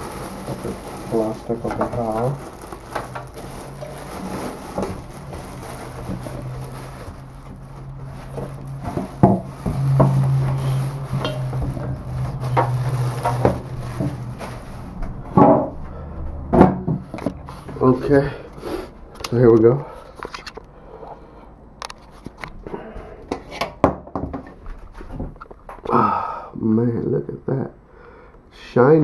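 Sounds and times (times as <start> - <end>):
low steady hum: 0.0 - 23.4.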